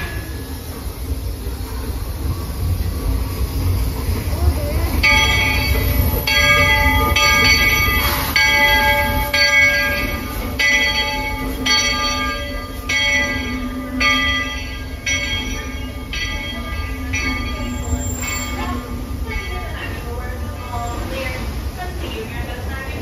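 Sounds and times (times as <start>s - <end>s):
low rumble of train: 0.0s - 23.0s
steam locomotive bell ringing: 0.0s - 23.0s.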